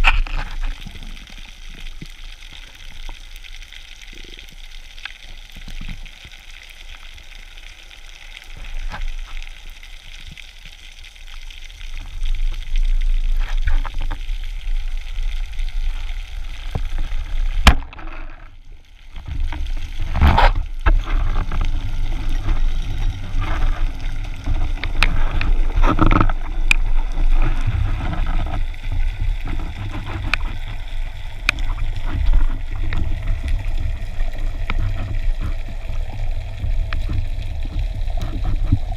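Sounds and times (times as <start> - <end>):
low rumble of water movement: 0.0 - 38.9
small clicks and bubbles: 0.0 - 38.9.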